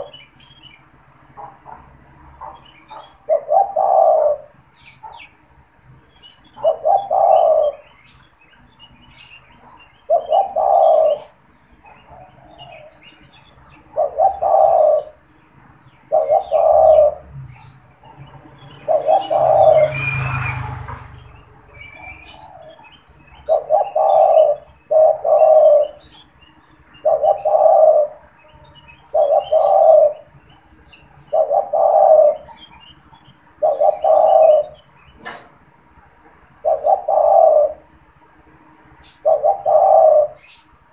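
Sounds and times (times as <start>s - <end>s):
dove cooing: 0.0s - 0.2s, 1.2s - 5.3s, 6.2s - 8.2s, 9.0s - 15.3s, 15.9s - 26.3s, 26.9s - 32.9s, 33.5s - 35.4s, 36.6s - 38.0s, 39.0s - 40.7s
small birds chirping faintly: 0.0s - 40.9s.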